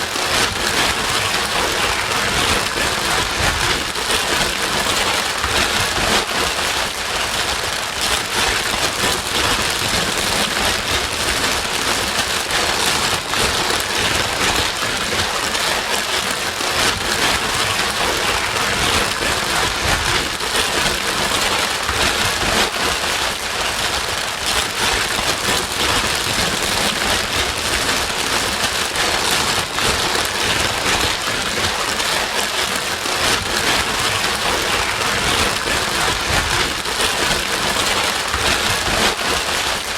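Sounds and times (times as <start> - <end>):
white noise with rain-like patter: 0.0 - 39.9.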